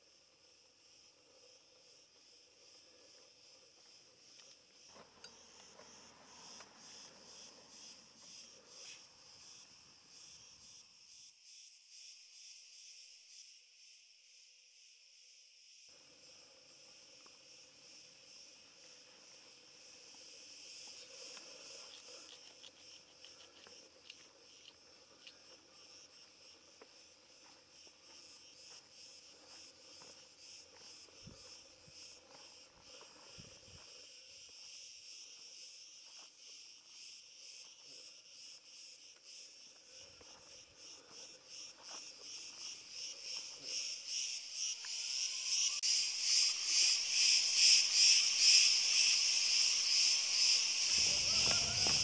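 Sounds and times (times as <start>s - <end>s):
insect chorus chirring: 0.0s - 52.0s.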